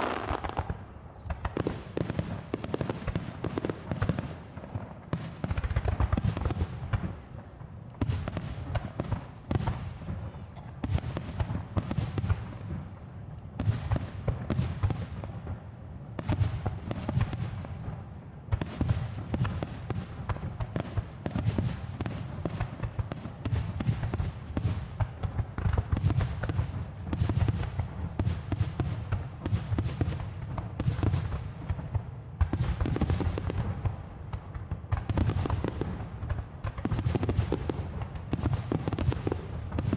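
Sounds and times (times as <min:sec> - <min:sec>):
fireworks cracks and crackle: 0:00.0 - 0:07.3, 0:08.0 - 0:12.8, 0:18.6 - 0:39.9
fireworks booming: 0:00.0 - 0:07.4, 0:08.0 - 0:39.9.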